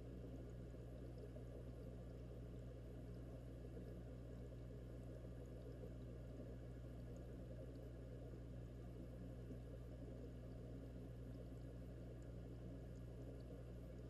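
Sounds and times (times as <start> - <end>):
aquarium bubbling underwater: 0.0 - 14.0
constant low hum: 0.0 - 14.0.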